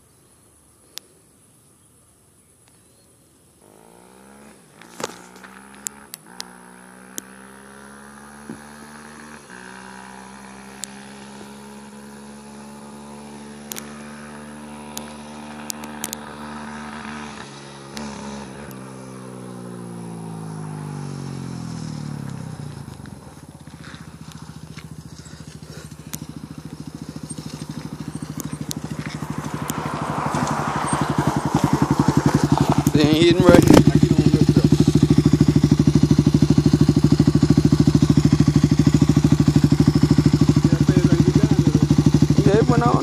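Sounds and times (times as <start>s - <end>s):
atv engine: 3.5s - 43.0s.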